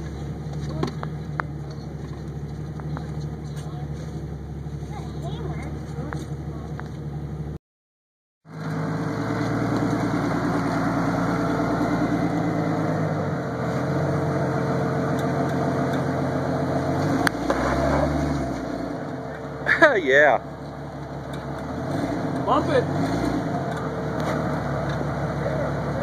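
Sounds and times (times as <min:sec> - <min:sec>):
engine running at low revs: 0:00.0 - 0:07.6, 0:08.5 - 0:26.0.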